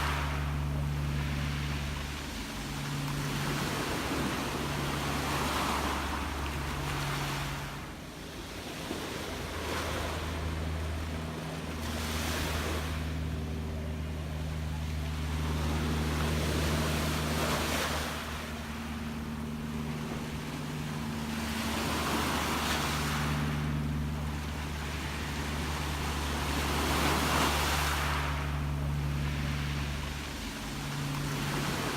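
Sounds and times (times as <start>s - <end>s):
low mechanical hum: 0.0s - 31.9s
sea waves washing onto shore: 0.0s - 31.9s.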